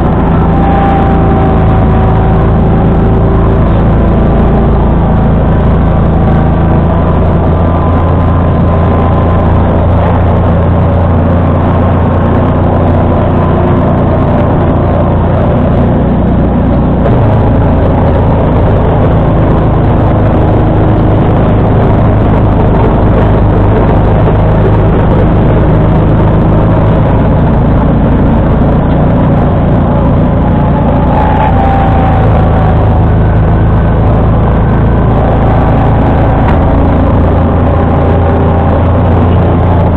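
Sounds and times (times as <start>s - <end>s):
lawn tractor engine running: 0.0s - 39.9s
snowblower running: 0.0s - 39.9s.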